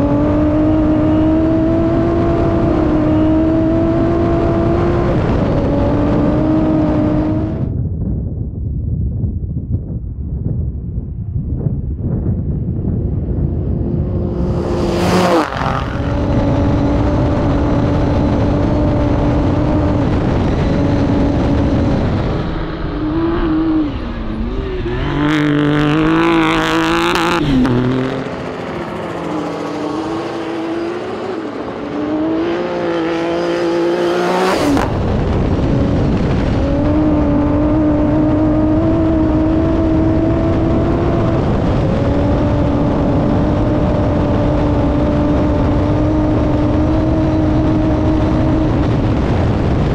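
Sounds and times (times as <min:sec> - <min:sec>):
truck engine running hard: 0:00.0 - 0:07.6, 0:12.6 - 0:49.9.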